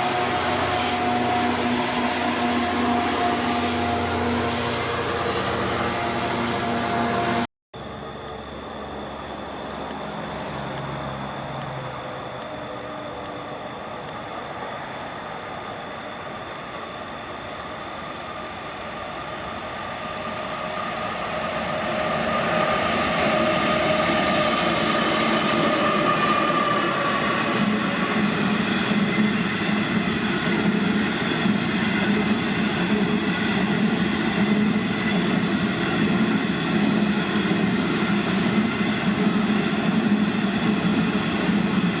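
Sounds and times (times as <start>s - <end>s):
train engine passing: 0.0s - 42.0s.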